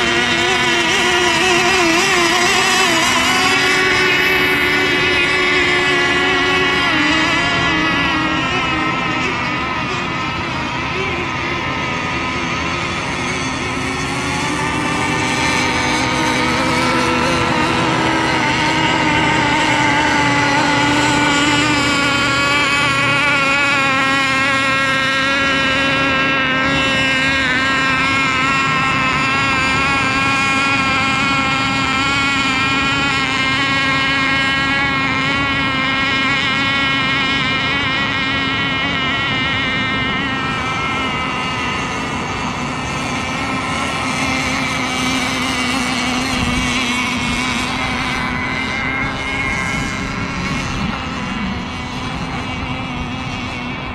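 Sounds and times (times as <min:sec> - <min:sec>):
rc boat motor whine: 0:00.0 - 0:53.9.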